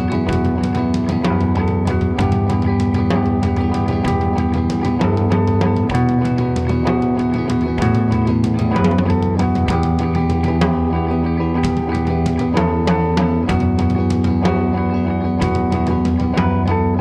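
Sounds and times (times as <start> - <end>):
drum kit with cymbal hits: 0.0 - 17.0
guitars playing ringing chords: 0.0 - 17.0.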